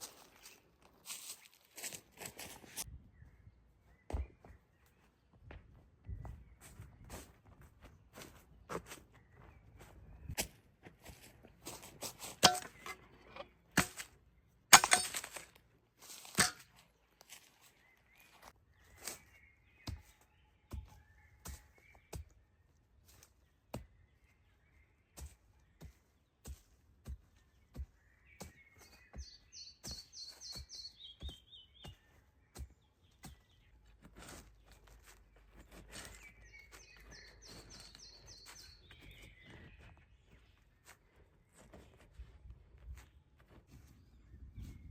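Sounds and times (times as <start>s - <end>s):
songbird singing: 2.6s - 11.5s, 16.1s - 44.9s.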